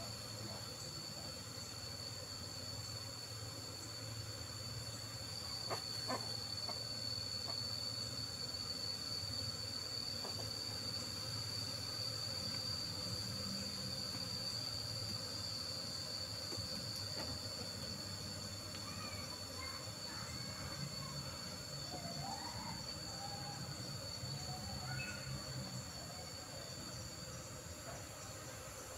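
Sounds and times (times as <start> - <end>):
high-pitched insect song: 0.0 - 28.9
honeybees humming: 0.0 - 28.9.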